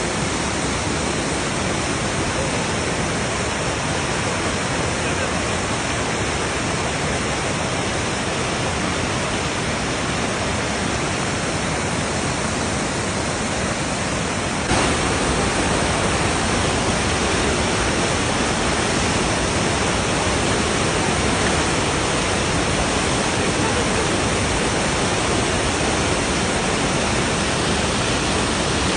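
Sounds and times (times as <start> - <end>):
fast-flowing river water: 0.0 - 28.9.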